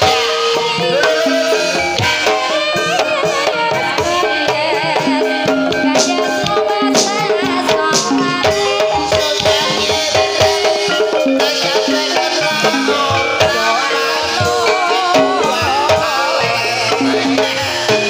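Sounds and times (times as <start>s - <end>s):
hand drums beating: 0.0s - 18.0s
ringing tuned metal percussion: 0.0s - 18.0s.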